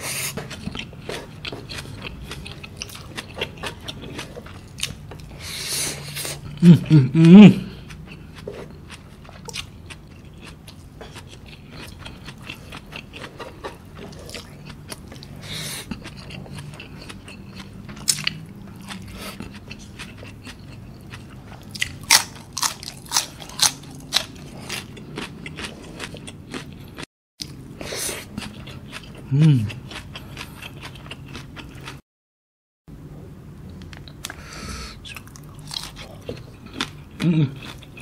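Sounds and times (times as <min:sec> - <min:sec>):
chewing crunchy food: 0:00.1 - 0:05.4, 0:07.7 - 0:32.0, 0:35.0 - 0:38.0.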